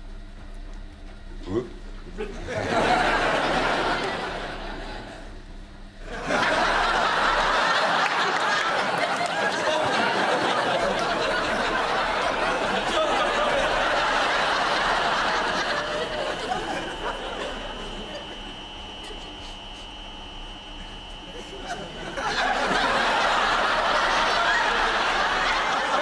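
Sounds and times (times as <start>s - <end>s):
studio audience laughing: 2.1s - 5.4s, 6.0s - 26.0s.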